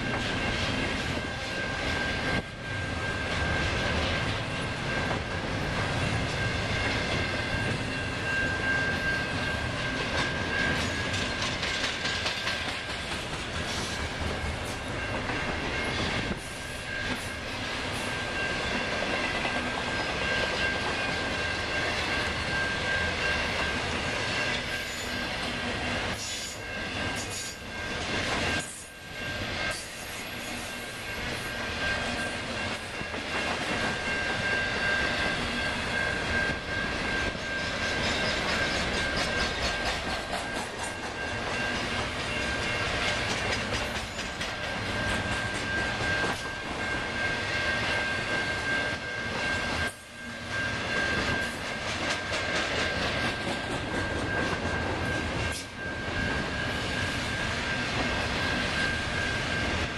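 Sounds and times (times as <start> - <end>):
steel wheels on rails: 0.0 - 59.9.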